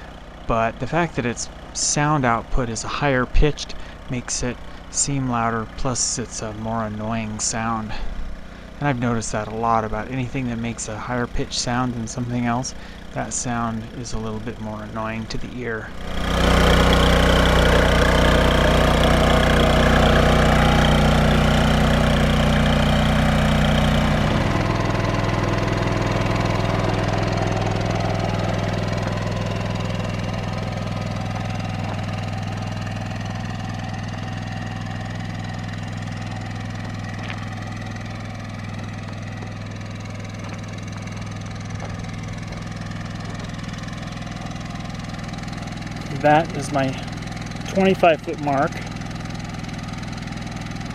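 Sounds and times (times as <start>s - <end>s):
generator engine running: 0.0s - 50.9s.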